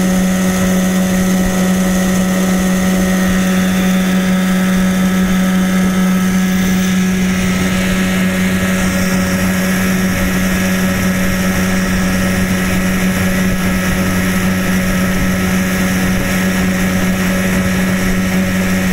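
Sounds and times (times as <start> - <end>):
outboard motor running: 0.0 - 18.9.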